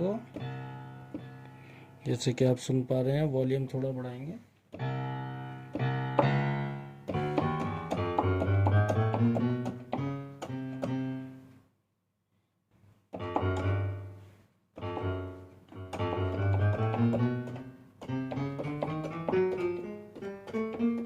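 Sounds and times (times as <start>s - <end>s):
piano notes and chords: 0.0s - 3.3s, 4.7s - 11.6s, 13.1s - 21.0s.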